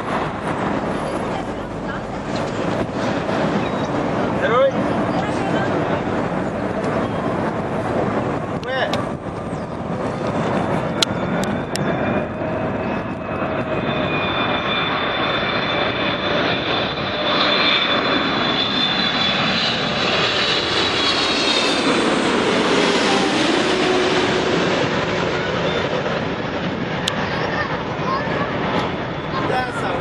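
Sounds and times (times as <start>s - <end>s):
jet airliner engines roaring: 0.0s - 30.0s.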